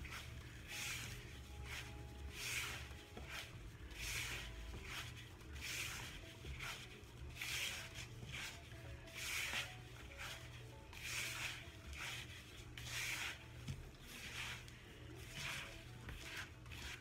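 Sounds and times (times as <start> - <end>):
powder stirred in a bowl: 0.0 - 17.0.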